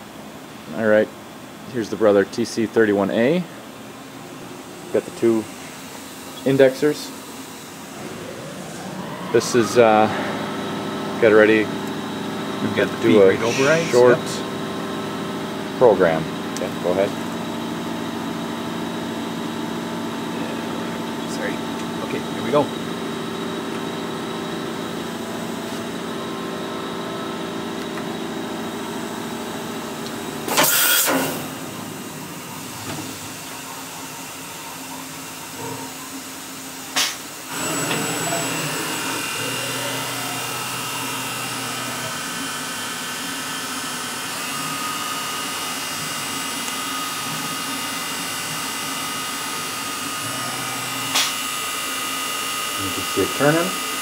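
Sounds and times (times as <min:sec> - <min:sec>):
machine mechanical hum: 0:00.0 - 0:54.0
machine whines and high tones: 0:05.3 - 0:16.2, 0:16.8 - 0:54.0.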